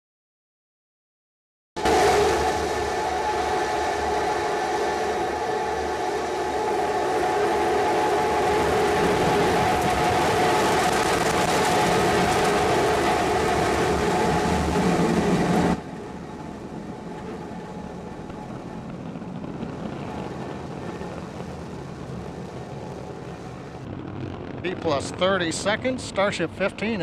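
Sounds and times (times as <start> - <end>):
rocket engines firing: 1.8 - 27.0.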